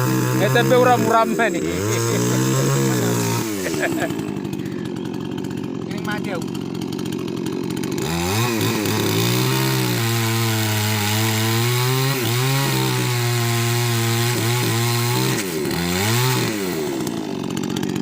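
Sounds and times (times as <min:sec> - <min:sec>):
chainsaw engine revving: 0:00.0 - 0:18.0.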